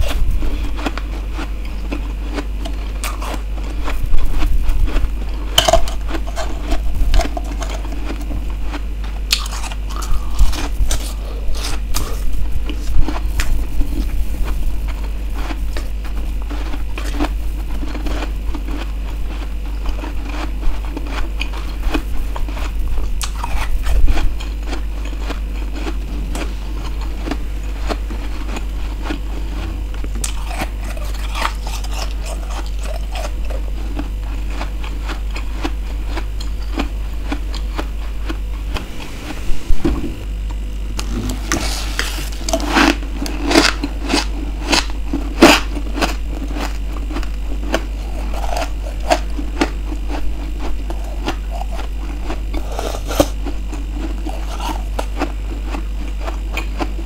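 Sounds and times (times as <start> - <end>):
chewing and crunching frost: 0.0 - 39.5, 40.2 - 57.0
steady low hum: 0.0 - 57.0.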